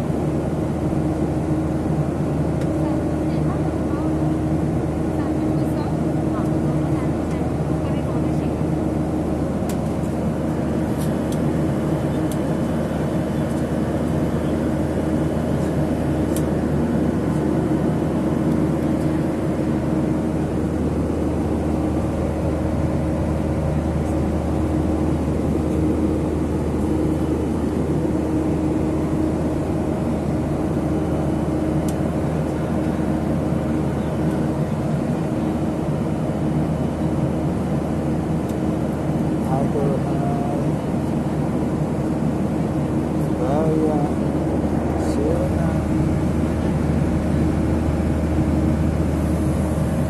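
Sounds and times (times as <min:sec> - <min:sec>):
airliner cabin drone: 0:00.0 - 0:50.0.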